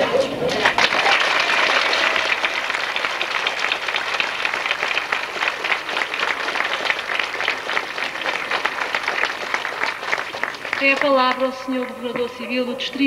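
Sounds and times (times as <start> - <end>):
audience applause: 0.0 - 11.5.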